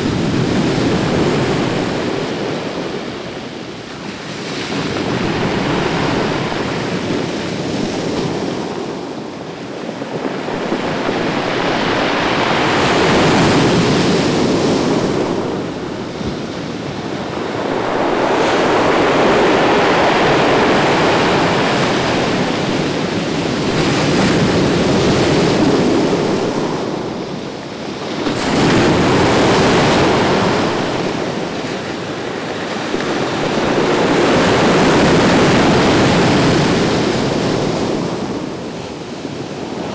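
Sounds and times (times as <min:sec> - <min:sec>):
ocean surf breaking on beach: 0:00.0 - 0:39.9
wind buffeting microphone: 0:00.0 - 0:39.9.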